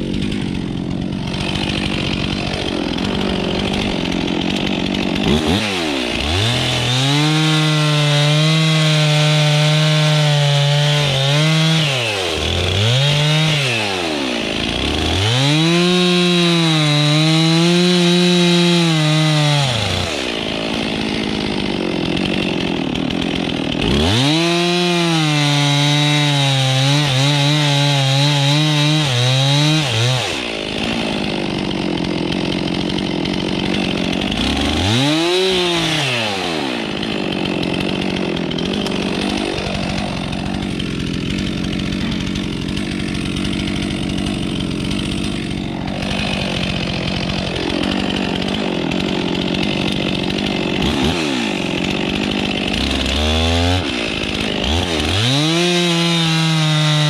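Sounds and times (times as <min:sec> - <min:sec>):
chainsaw cutting and idling: 0:00.0 - 0:57.0.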